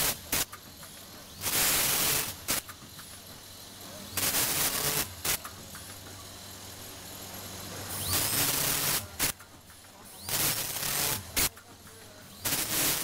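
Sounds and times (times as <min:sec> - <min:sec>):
packaging machine hiss: 0:00.0 - 0:13.0.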